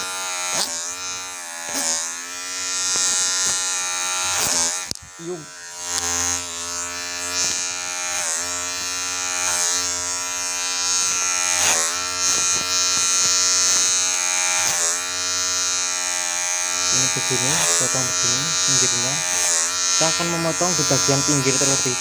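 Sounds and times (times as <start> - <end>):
electric hair clipper buzzing: 0.0 - 22.0.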